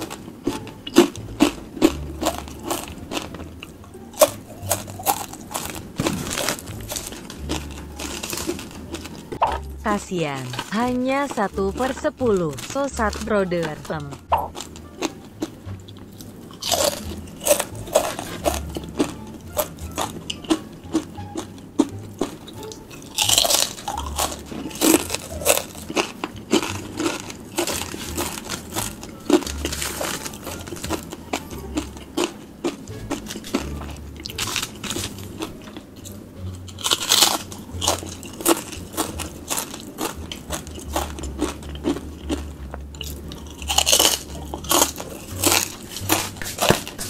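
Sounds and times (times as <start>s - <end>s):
crunching and chewing chip: 0.0s - 47.0s.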